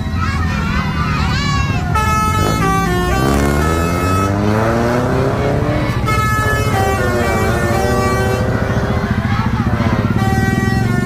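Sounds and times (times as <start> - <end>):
bus engine running: 0.0 - 11.0
multi-tone bus horn playing a tune: 1.8 - 11.0.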